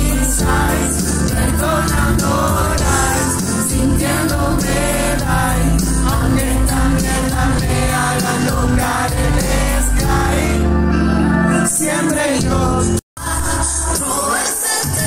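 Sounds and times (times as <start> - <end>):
amplified pop track with bass: 0.0 - 15.0.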